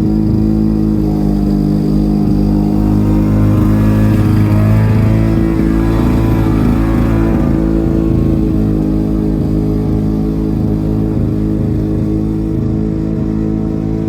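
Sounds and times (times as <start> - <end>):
lawn mower engine running: 0.0 - 14.0.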